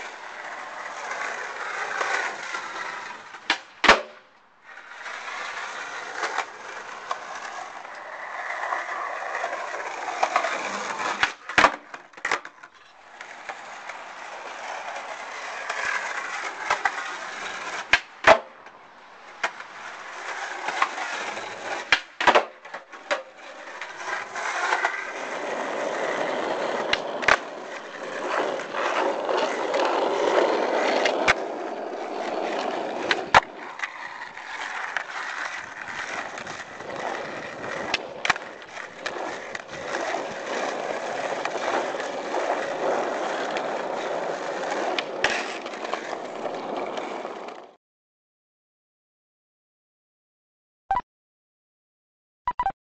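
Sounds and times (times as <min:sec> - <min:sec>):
skateboard clacking on ground: 0:00.0 - 0:47.8
skateboard wheels rolling on concrete: 0:00.0 - 0:47.8.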